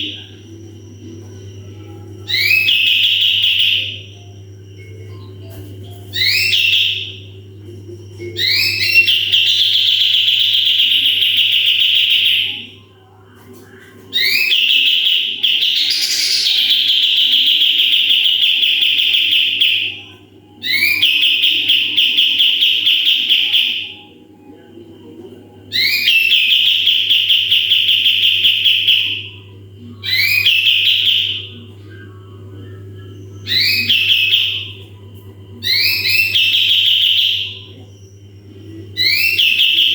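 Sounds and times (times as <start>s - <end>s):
bulbul singing buzzy trills: 0.0s - 13.0s, 14.1s - 24.2s, 25.4s - 39.9s
steady low hum: 0.0s - 39.9s.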